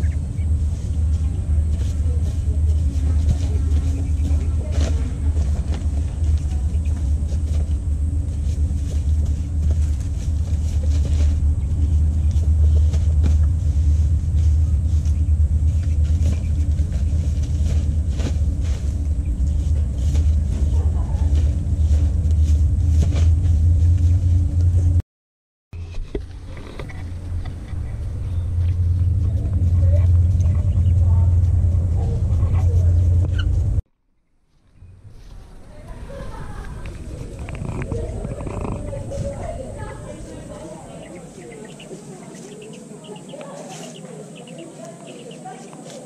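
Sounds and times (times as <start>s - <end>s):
low rumble: 0.0s - 25.0s, 25.8s - 33.8s, 34.6s - 43.3s.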